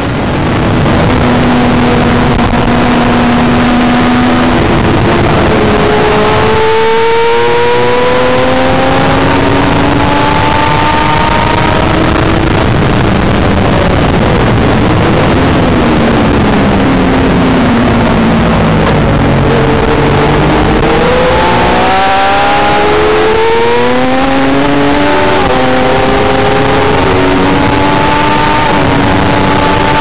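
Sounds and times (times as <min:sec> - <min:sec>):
motorcycle engine accelerating: 0:00.0 - 0:30.0
wind noise rushing: 0:00.0 - 0:30.0.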